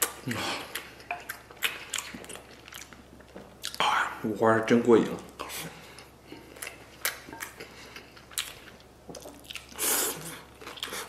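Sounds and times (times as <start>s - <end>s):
person chewing food: 0.0s - 3.9s, 5.1s - 11.0s.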